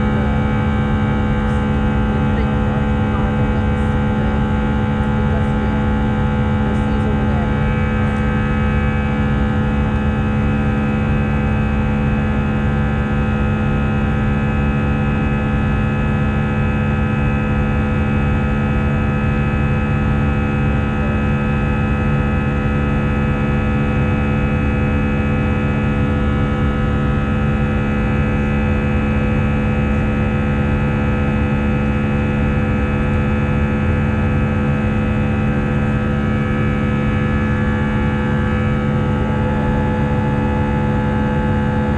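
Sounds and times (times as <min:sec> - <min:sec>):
airplane cabin engine drone: 0:00.0 - 0:41.9
strong low hum: 0:00.0 - 0:41.9.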